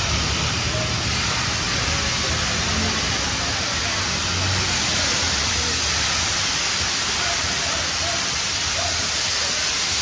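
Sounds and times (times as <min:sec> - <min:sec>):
constant even hiss: 0:00.0 - 0:10.0
distant voices: 0:00.0 - 0:10.0.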